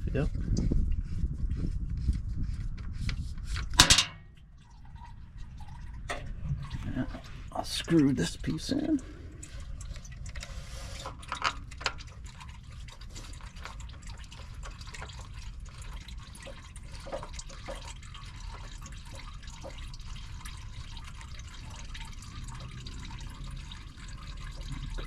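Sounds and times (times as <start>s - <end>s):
oil dripping into cup: 3.9s - 25.0s.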